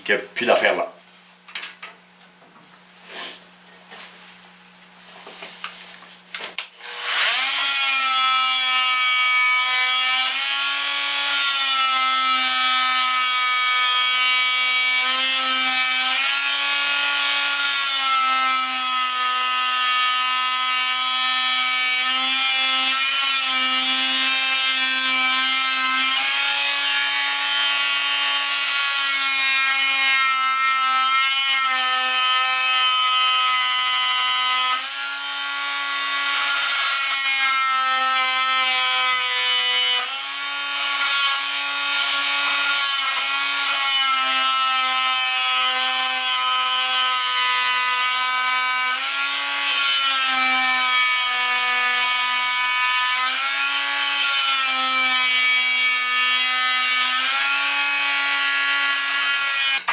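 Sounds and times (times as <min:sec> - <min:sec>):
oscillating multi-tool sawing wood: 0:06.6 - 0:59.9.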